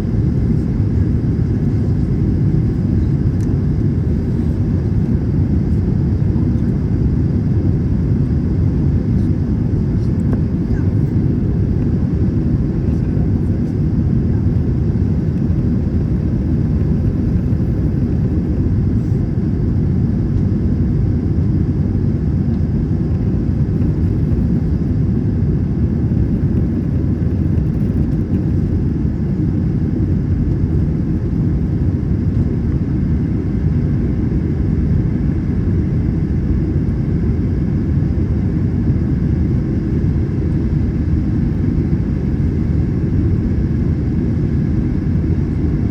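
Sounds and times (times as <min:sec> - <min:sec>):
airplane cabin engine roar: 0:00.0 - 0:45.9.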